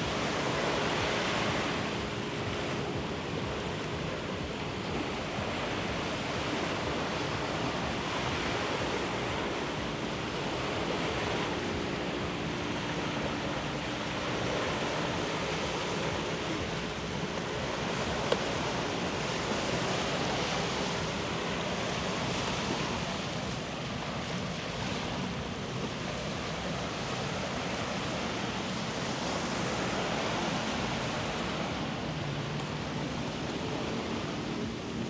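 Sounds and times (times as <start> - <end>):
surf washing on beach: 0.0 - 35.0.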